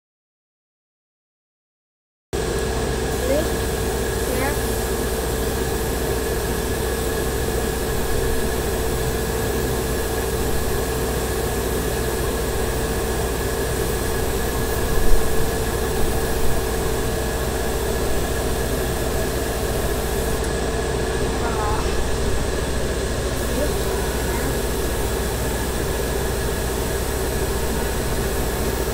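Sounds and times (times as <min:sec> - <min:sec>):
airbrush compressor running: 0:02.4 - 0:28.9
air hissing through airbrush: 0:03.1 - 0:20.6, 0:21.4 - 0:28.9.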